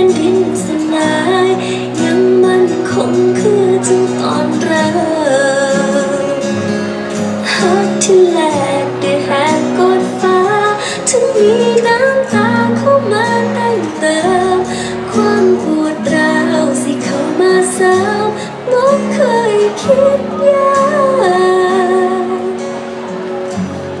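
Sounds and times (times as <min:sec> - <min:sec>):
woman singing: 0:00.0 - 0:22.7.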